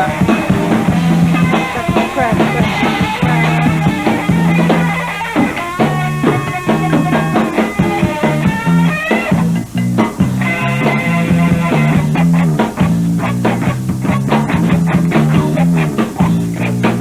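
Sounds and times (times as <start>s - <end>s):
bass guitar: 0.0s - 17.0s
drum hits: 0.0s - 17.0s
sustained electric guitar notes: 0.0s - 17.0s.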